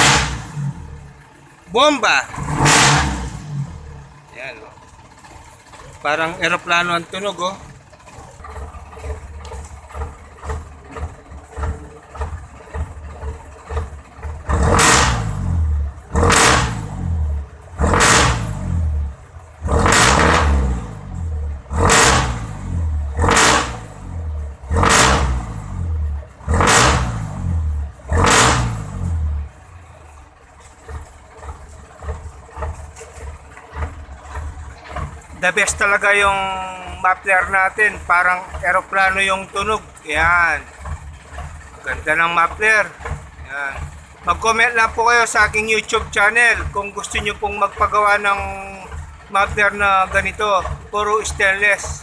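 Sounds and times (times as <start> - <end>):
engine idling and revving: 0.0 - 52.0.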